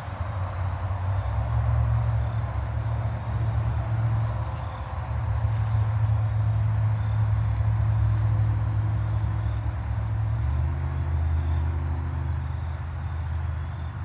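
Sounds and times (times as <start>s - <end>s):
vehicle engine running at low revs: 0.0s - 14.0s.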